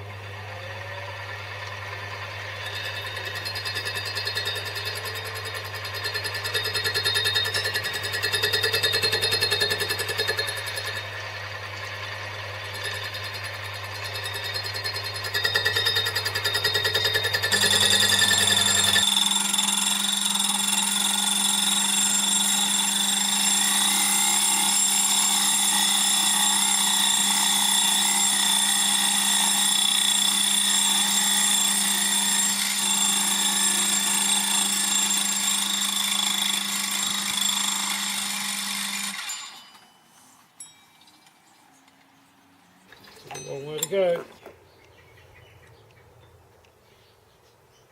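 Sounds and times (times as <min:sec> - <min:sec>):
machine tool motor hum: 0:00.0 - 0:39.6.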